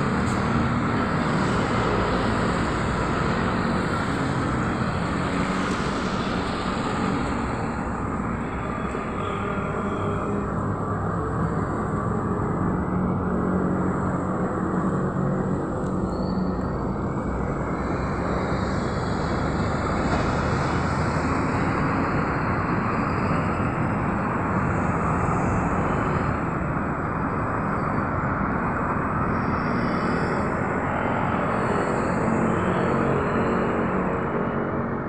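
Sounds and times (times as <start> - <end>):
road traffic rumble and tyre hiss: 0.0 - 35.0.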